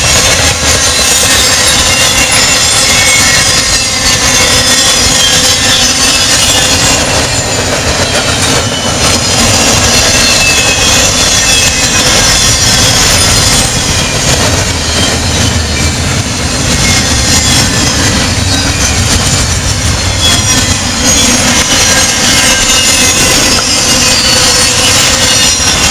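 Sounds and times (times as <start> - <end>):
freight train wheels rumbling: 0.0 - 25.9
high-pitched wheel squeal: 0.0 - 25.9.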